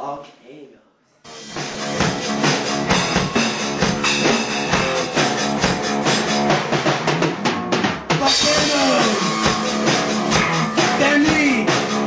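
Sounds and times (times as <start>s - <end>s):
drum kit: 1.3s - 12.0s
electric guitar: 1.5s - 12.0s.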